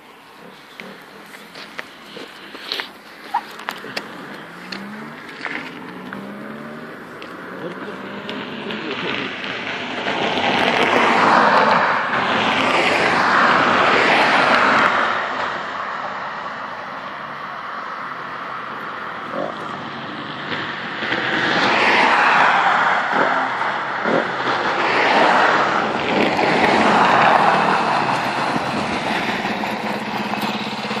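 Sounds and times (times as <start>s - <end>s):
motorcycle engine revving: 0.4s - 15.8s, 16.9s - 31.0s.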